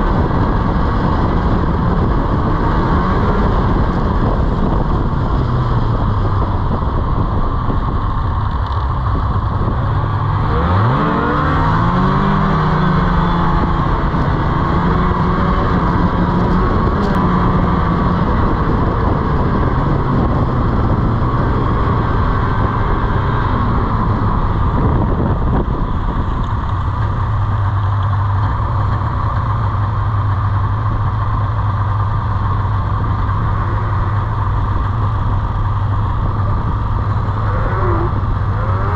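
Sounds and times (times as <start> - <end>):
snowmobile engine revving: 0.0 - 7.8, 9.2 - 26.4, 28.7 - 38.9.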